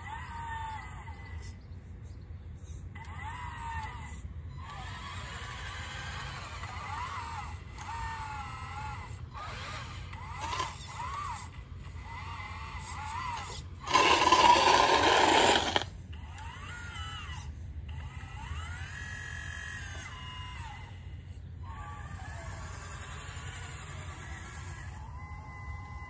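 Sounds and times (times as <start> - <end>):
toy motors whining: 0.0 - 1.7, 2.6 - 26.0.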